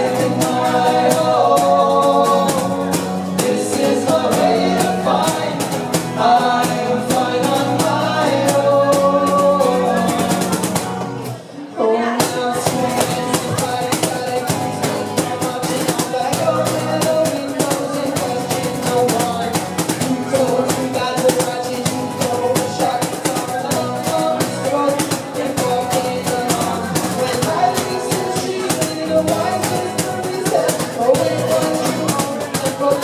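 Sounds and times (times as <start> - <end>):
percussion beat: 0.0 - 11.2, 12.2 - 33.0
strummed acoustic guitars: 0.0 - 33.0.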